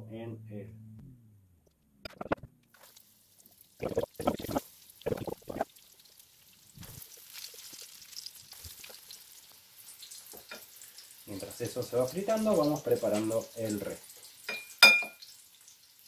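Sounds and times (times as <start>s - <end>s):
battered vegetables sizzling in oil: 2.8s - 16.0s.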